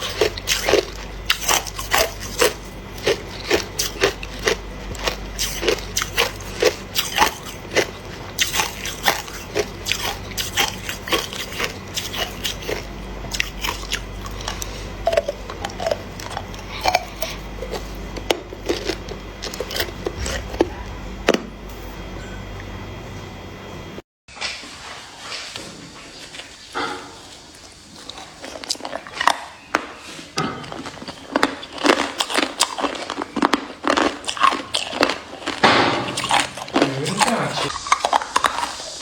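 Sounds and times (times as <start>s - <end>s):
ice being chewed: 0.0s - 21.8s, 27.2s - 39.0s
steady low hum: 0.0s - 24.0s, 30.2s - 39.0s.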